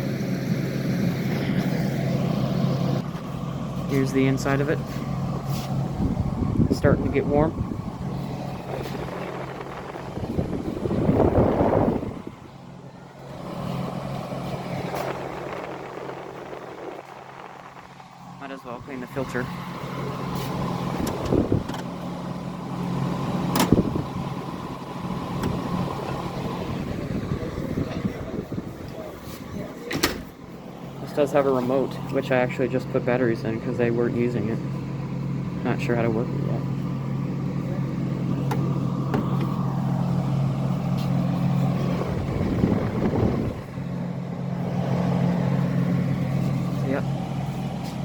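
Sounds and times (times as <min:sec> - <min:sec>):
blower airflow: 0:00.0 - 0:48.0
heat pump compressor hum: 0:00.0 - 0:48.0.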